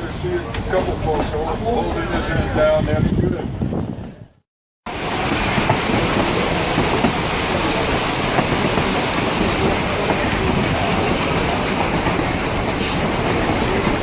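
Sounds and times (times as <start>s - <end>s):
railroad car wheels on rails: 0.0s - 4.2s, 4.9s - 14.0s.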